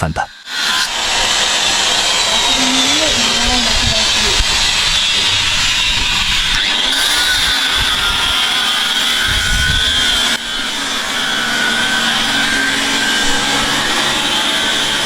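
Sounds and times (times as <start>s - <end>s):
high-pitched mechanical whine: 0.0s - 15.0s.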